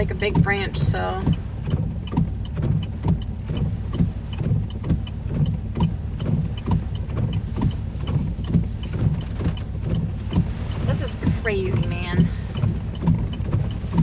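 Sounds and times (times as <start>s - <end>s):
low rumble in truck cabin: 0.0s - 14.0s.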